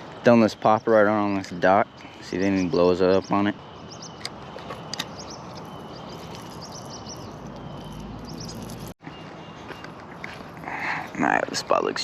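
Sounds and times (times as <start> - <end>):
outdoor background hiss: 0.0 - 12.0
small birds chirping: 0.4 - 12.0.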